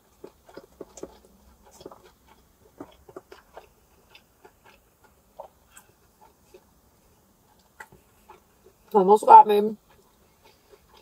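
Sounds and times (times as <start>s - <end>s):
chewing with wet mouth clicks: 0.0s - 9.1s, 9.8s - 11.0s.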